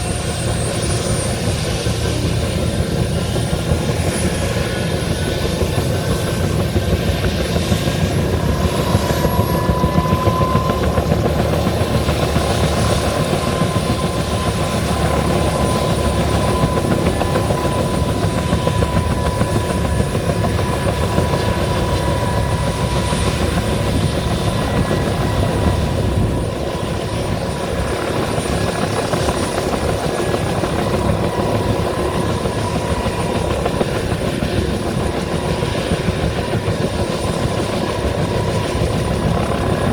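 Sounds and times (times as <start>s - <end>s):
helicopter rotor beat: 0.0s - 39.9s
turbine engine whine: 0.0s - 39.9s.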